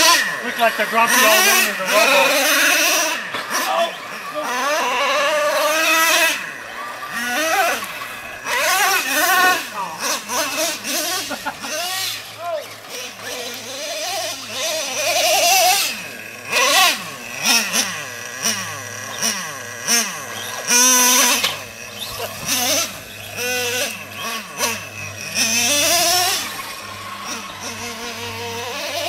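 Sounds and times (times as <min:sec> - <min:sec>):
rc truck engine revving: 0:00.0 - 0:29.0.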